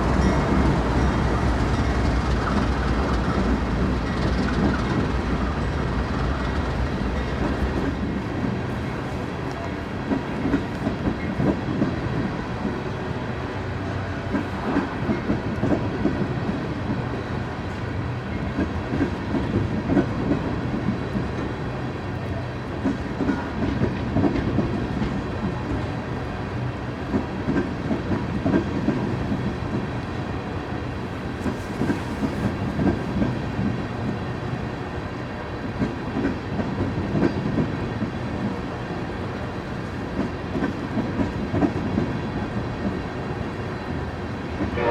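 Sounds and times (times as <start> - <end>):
rumble of train cars: 0.0 - 44.9.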